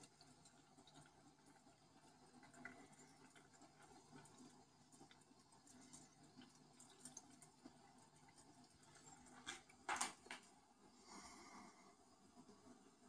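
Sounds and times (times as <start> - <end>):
faint water sounds: 0.0 - 13.0.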